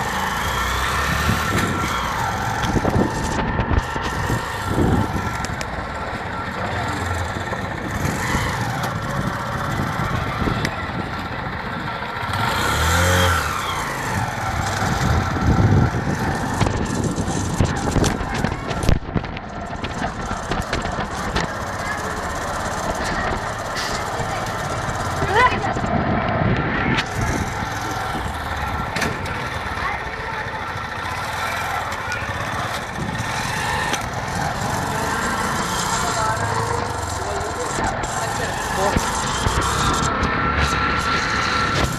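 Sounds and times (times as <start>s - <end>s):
motorcycle engine and road noise: 0.0s - 41.9s
passing vehicle engine: 0.0s - 41.9s
sharp clicks and rattles: 0.1s - 11.3s, 13.4s - 41.9s.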